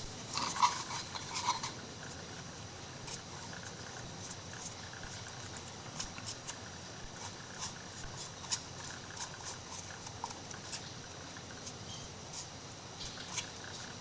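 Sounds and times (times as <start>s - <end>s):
paper scratching and rustling: 0.0s - 2.3s, 3.0s - 10.9s, 11.5s - 14.0s.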